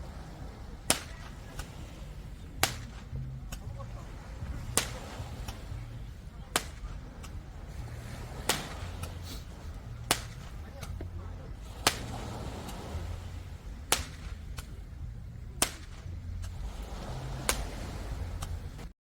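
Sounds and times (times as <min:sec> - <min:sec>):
slow beat music: 0:00.0 - 0:18.9.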